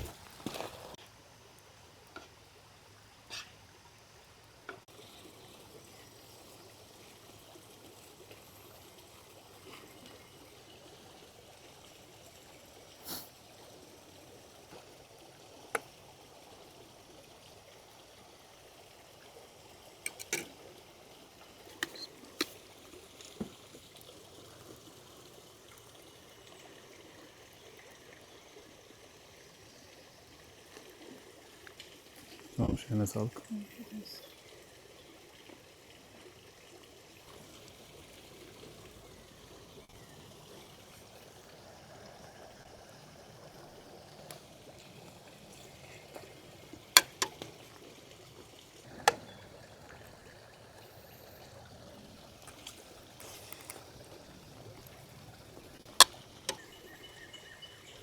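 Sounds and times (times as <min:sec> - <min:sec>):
creek flowing: 0:00.0 - 0:58.0.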